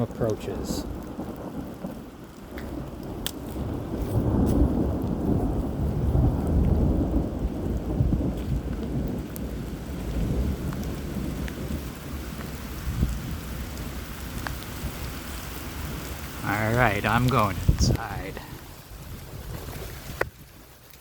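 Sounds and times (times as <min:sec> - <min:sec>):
thunder rumbling: 0:00.0 - 0:20.9
raindrop ticks: 0:00.0 - 0:21.0
steady rain: 0:00.0 - 0:21.0.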